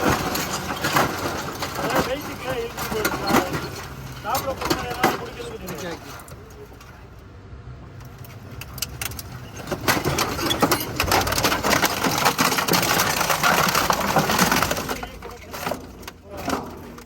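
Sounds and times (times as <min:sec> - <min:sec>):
industrial shredder crunching metal: 0:00.0 - 0:06.9, 0:08.4 - 0:17.0.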